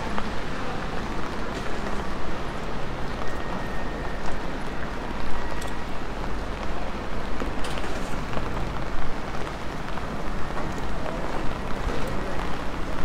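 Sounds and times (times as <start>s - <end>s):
rain hissing on street: 0.0s - 13.0s.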